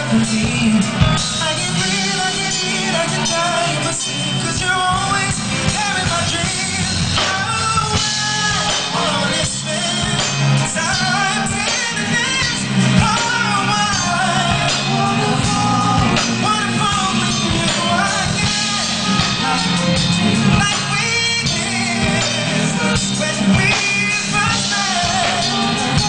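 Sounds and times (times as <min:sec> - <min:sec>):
full band playing: 0:00.0 - 0:26.0
man singing into a microphone: 0:00.0 - 0:26.0.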